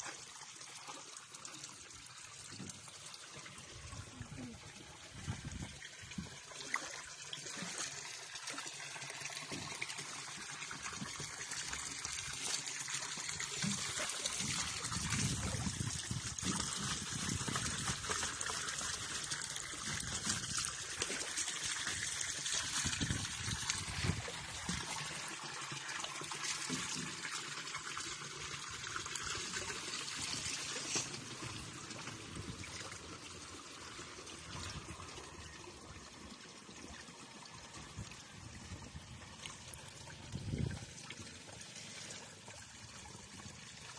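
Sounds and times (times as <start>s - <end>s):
water trickling over rocks: 0.0s - 43.9s.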